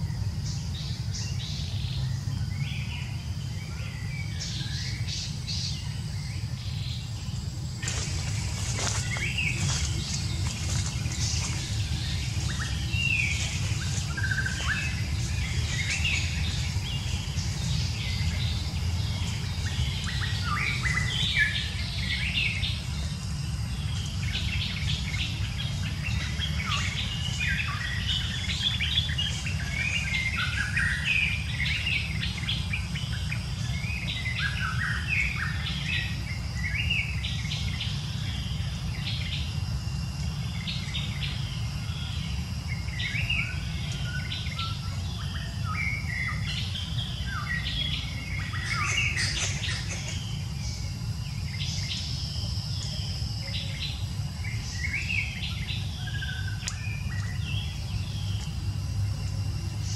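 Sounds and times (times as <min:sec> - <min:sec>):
birds chirping: 0:00.0 - 0:59.9
steady low rumble: 0:00.0 - 0:59.9.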